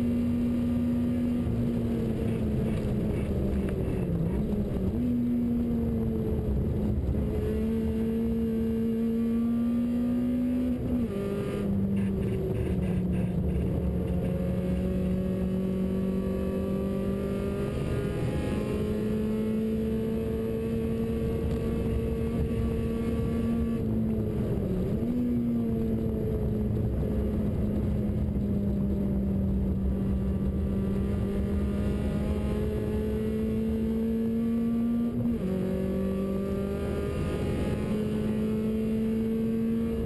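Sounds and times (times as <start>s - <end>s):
car engine at high revs: 0.0s - 40.0s.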